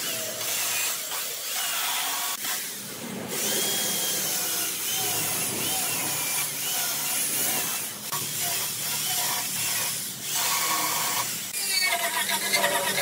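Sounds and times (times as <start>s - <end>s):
angle grinder on wood: 0.0s - 13.0s
electric chainsaw cutting wood: 0.0s - 13.0s.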